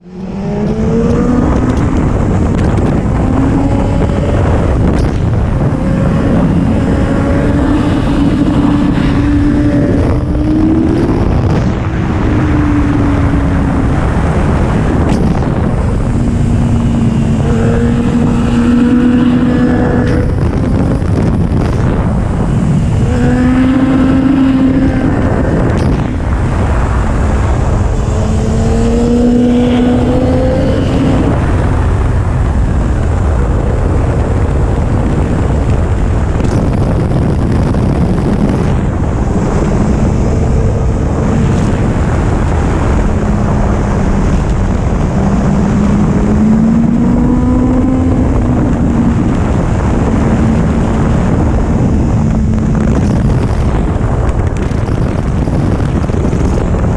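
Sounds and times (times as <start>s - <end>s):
motorcycle engine revving: 0.0s - 56.9s
wind buffeting on microphone: 0.0s - 56.9s.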